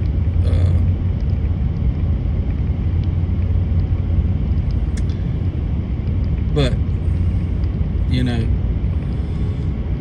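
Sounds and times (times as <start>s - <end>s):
road noise: 0.0s - 10.0s
truck engine rumble: 0.0s - 10.0s.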